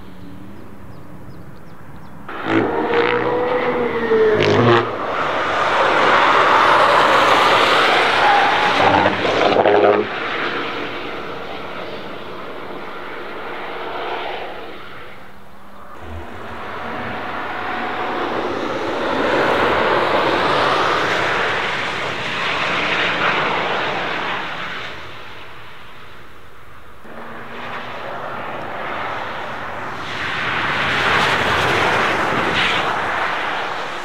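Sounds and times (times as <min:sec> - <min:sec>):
electric car whine: 0:00.0 - 0:34.0
tyre and wind rush: 0:02.3 - 0:34.0.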